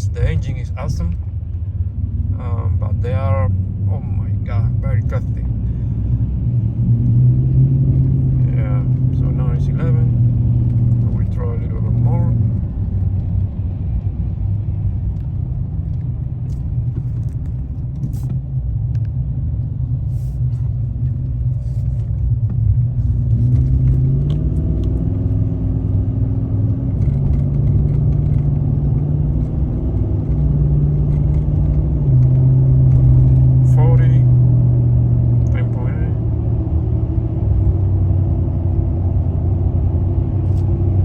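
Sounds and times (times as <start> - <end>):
engine and tyre rumble in cab: 0.0 - 41.0.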